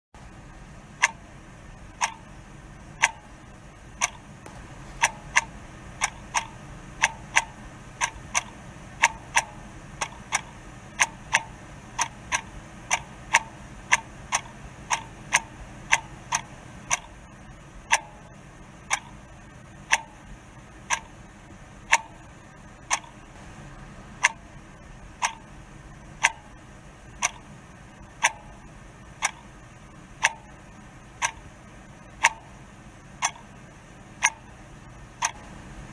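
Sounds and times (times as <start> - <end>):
sharp regular ticks: 0.9 - 1.3, 1.9 - 23.4, 24.2 - 35.6.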